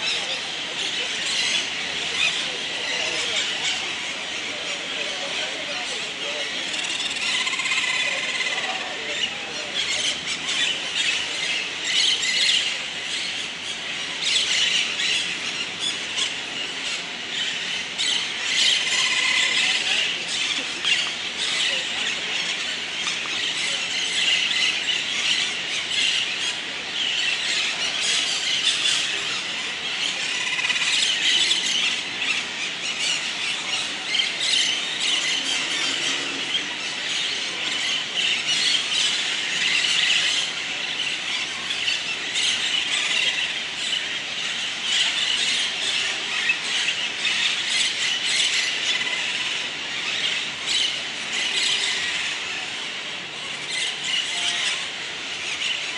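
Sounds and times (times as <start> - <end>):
parakeets screeching: 0.0 - 55.9.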